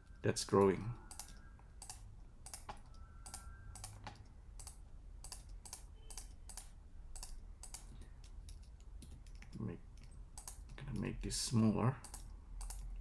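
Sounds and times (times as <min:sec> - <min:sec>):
computer keyboard and mouse clicks: 0:01.1 - 0:11.1, 0:12.0 - 0:13.0.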